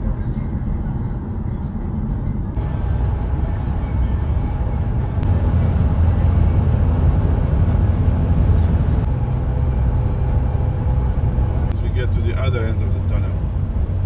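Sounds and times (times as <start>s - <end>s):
road vehicle rumble: 0.0s - 14.0s.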